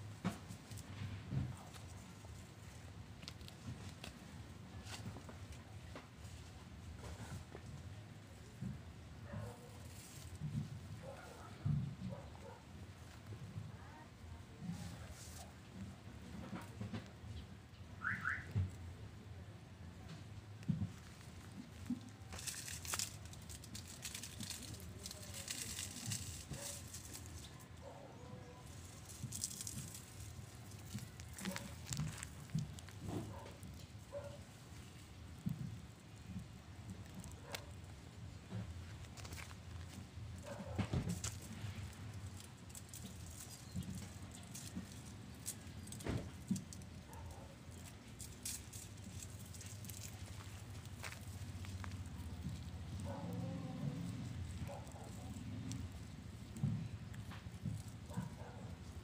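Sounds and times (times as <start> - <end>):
hands working wire and cord: 0.0 - 13.7, 20.0 - 59.0
line rustling and crinkling: 0.0 - 18.9, 19.9 - 59.0
low outdoor rumble: 0.0 - 59.0.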